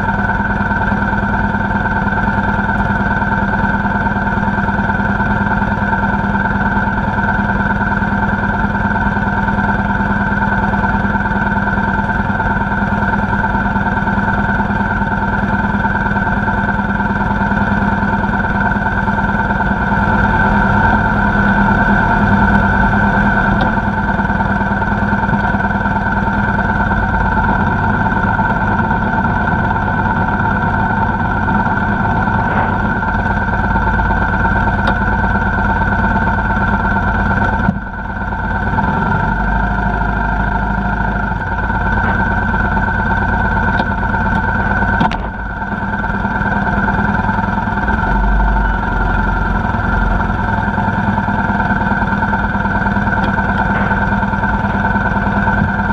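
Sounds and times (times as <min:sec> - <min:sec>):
deep engine rumbles: 0:00.0 - 0:55.9
motorcycle engine running: 0:00.0 - 0:55.9.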